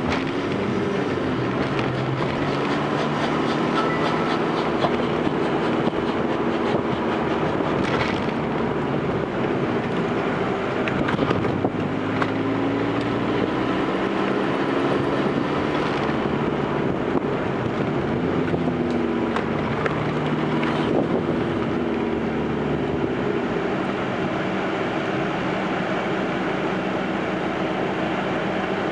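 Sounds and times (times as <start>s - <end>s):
diesel car engine running: 0.0s - 28.9s
wind and road noise: 0.0s - 28.9s.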